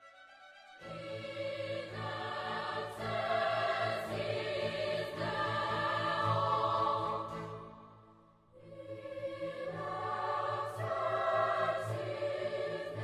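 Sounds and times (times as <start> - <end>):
choir singing a hymn: 0.8 - 13.0.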